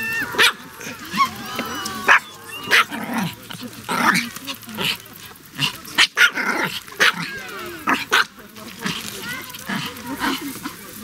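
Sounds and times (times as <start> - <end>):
small dogs barking and growling: 0.0 - 11.0.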